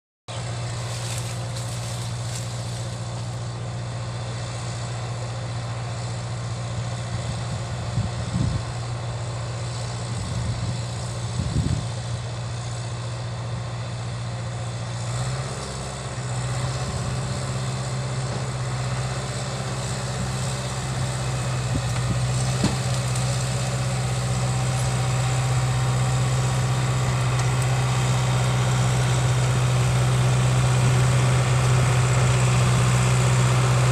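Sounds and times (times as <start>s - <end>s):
bulldozer diesel engine running: 0.3s - 33.9s.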